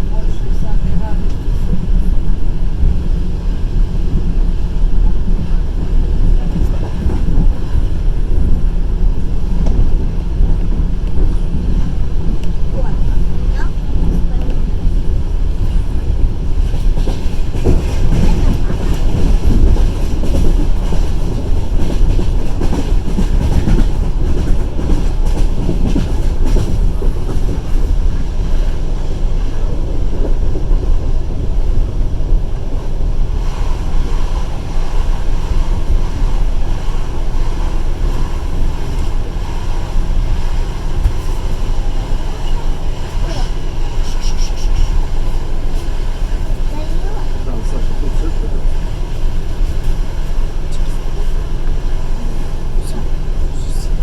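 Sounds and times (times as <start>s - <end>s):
train carriage rumble: 0.0s - 54.0s
wheels clattering on rails: 0.0s - 54.0s.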